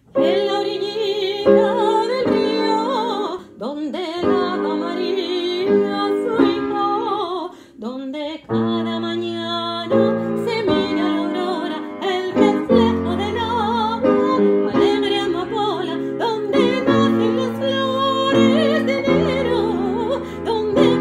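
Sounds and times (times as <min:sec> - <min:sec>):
piano chords: 0:00.0 - 0:21.0
woman singing operatically: 0:00.1 - 0:21.0.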